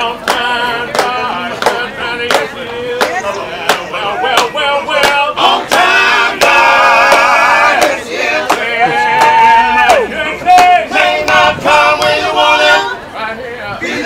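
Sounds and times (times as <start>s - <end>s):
group singing in harmony: 0.0s - 14.0s.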